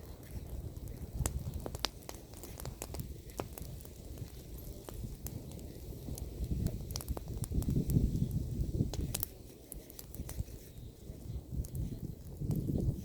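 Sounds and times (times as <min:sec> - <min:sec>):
bonfire crackling and popping: 0:00.0 - 0:13.0
low fire rumble: 0:00.0 - 0:13.0.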